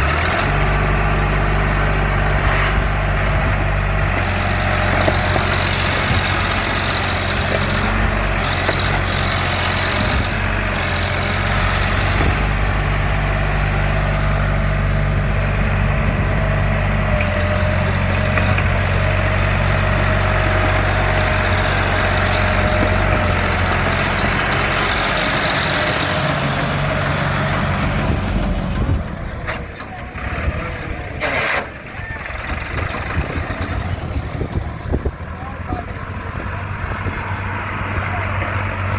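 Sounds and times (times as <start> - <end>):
tractor engine droning: 0.0 - 38.9.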